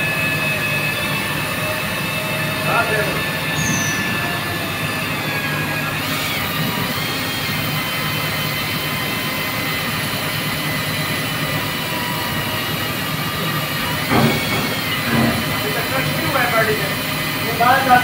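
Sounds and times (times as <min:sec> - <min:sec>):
pipe cutter motor whining: 0:00.0 - 0:18.0.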